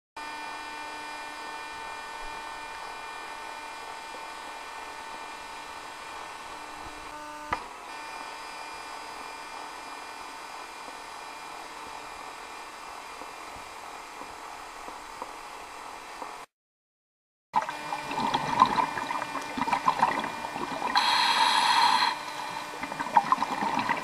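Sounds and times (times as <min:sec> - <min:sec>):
mechanical hum with high whine: 0:00.2 - 0:16.5, 0:17.6 - 0:24.0.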